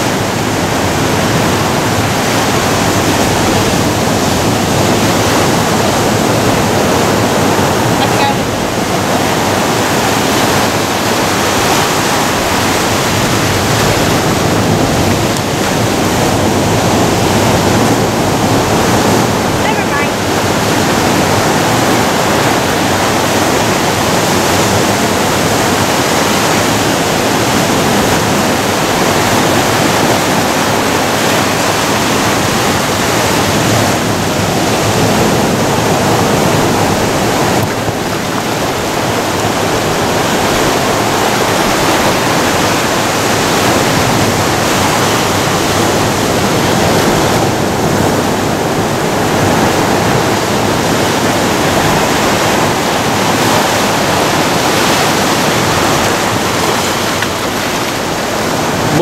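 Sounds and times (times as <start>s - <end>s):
ocean surf breaking on rocks: 0.0s - 59.0s.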